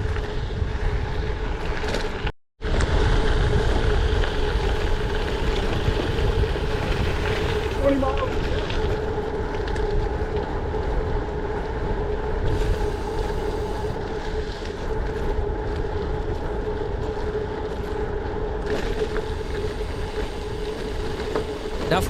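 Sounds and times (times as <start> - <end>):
bike tyres and drivetrain hum: 0.0 - 22.0
wind buffeting microphone: 0.0 - 22.0.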